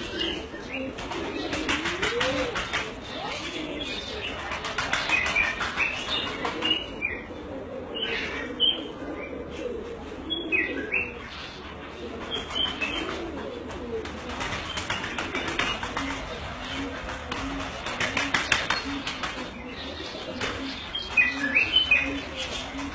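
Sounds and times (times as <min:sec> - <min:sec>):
small birds chirping: 0:00.0 - 0:07.3, 0:10.3 - 0:22.9
doves cooing: 0:00.0 - 0:22.9.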